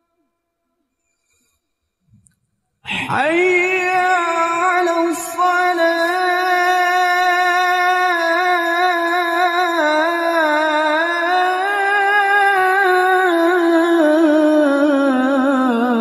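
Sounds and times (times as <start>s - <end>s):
man chanting call to prayer: 2.9s - 16.0s.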